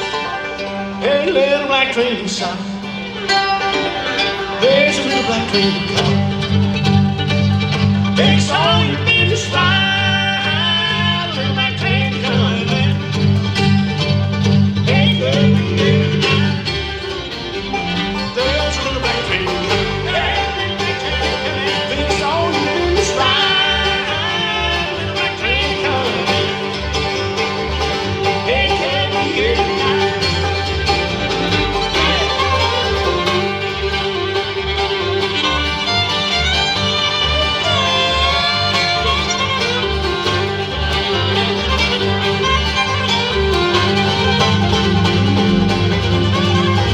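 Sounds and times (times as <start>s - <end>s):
acoustic guitar: 0.0s - 46.9s
banjo: 0.0s - 46.9s
fiddle: 0.0s - 46.9s
mandolin: 0.0s - 46.9s
upright bass: 0.0s - 46.9s.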